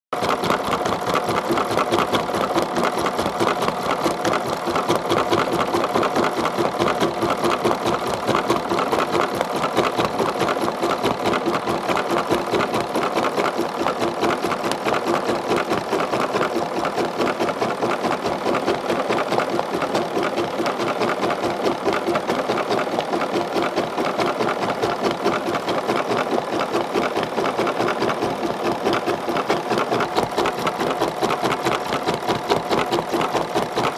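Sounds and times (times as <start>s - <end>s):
embroidery machine stitching: 0.2s - 33.9s.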